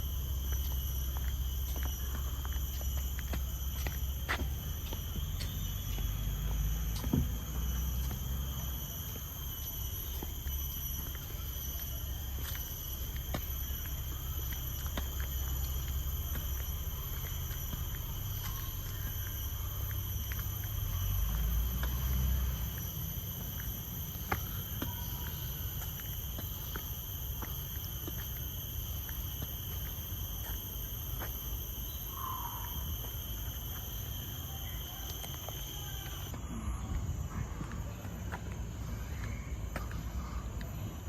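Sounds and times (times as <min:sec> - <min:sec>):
insects droning high-pitched whine: 0:00.0 - 0:41.0.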